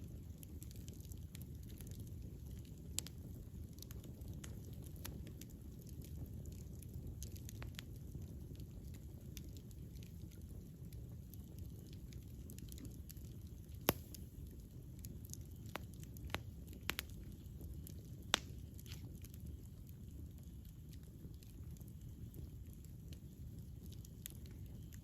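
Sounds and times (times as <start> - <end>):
burning wood crackling and popping: 0.0 - 25.0
wood fire rumble: 0.0 - 25.0.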